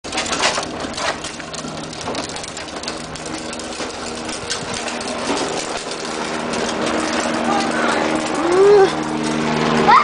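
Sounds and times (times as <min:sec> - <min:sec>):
plastic wheels rolling on concrete: 0:00.0 - 0:10.0.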